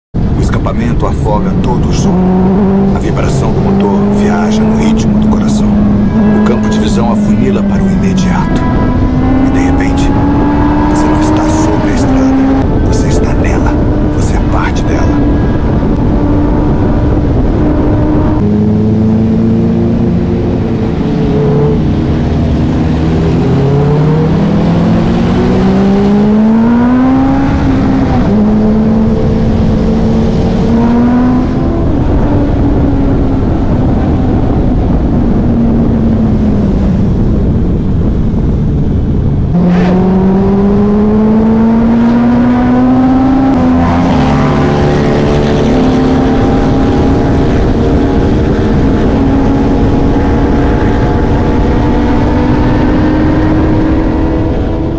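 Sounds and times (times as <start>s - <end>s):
motorcycle engine accelerating: 1.4s - 54.9s.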